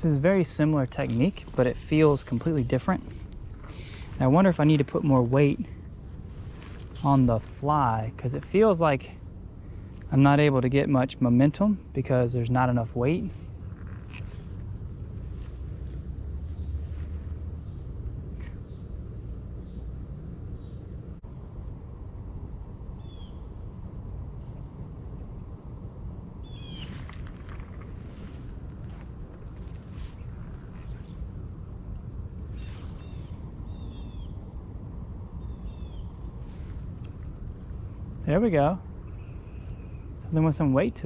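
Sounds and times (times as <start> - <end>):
insects trilling: 0.0 - 41.0
low background rumble: 0.0 - 41.0.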